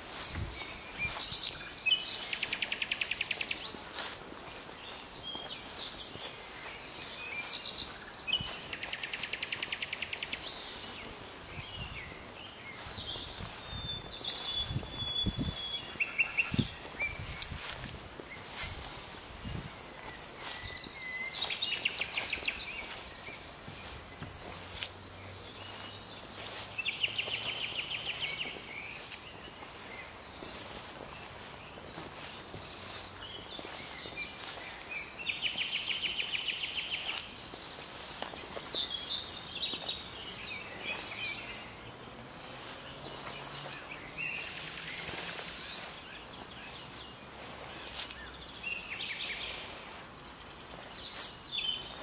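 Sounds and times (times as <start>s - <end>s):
nightingale singing: 0.0s - 52.0s.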